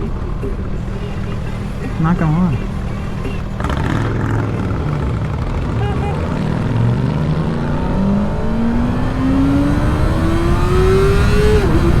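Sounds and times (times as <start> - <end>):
motorcycle engine accelerating: 0.8 - 12.0.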